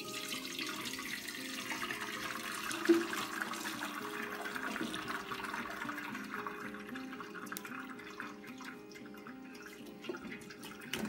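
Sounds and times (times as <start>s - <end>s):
broth pouring into a colander: 0.0s - 11.0s.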